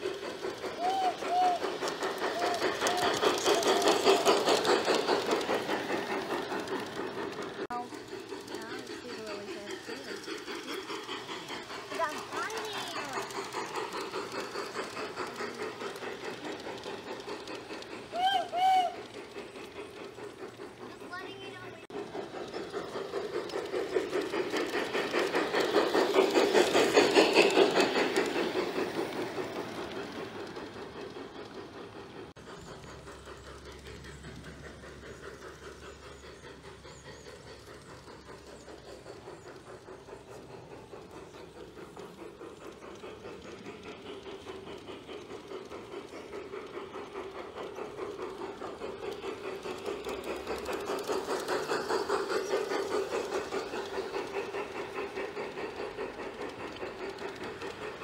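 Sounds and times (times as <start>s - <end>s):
model train wheels clicking: 0.0s - 58.0s.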